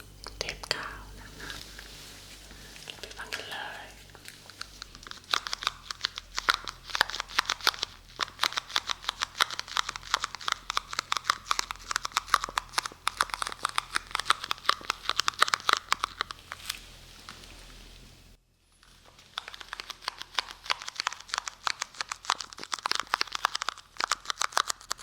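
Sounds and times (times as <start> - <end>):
adhesive tape crackling: 1.4 - 18.1, 18.8 - 25.0.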